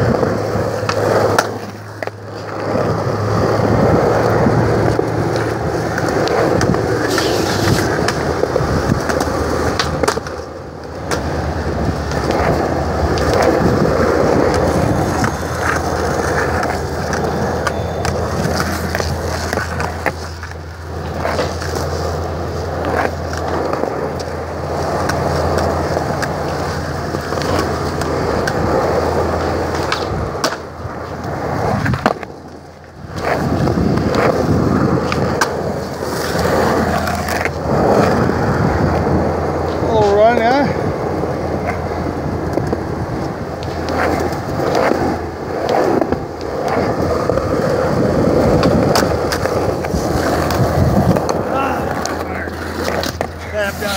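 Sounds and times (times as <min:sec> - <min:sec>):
skateboard wheels rolling on concrete: 0:00.0 - 0:53.9.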